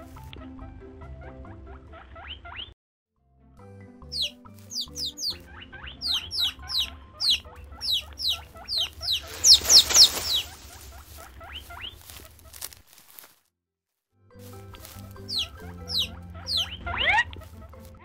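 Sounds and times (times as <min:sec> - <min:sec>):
soft background music: 0:00.0 - 0:02.4, 0:03.2 - 0:12.6, 0:14.2 - 0:18.0.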